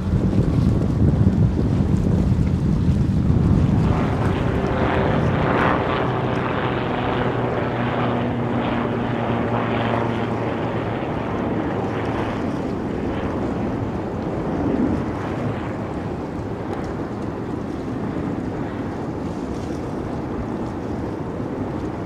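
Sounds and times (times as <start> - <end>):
aircraft engines droning overhead: 0.0 - 22.0
wind buffeting microphone: 0.0 - 22.0.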